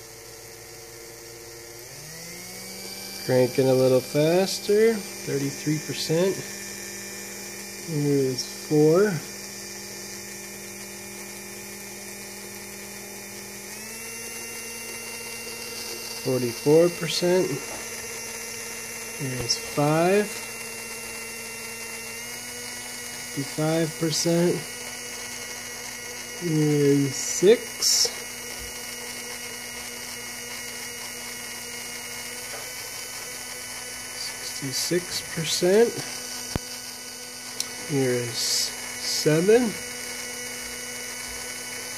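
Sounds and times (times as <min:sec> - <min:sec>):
electric fan motor humming: 0:00.0 - 0:41.9.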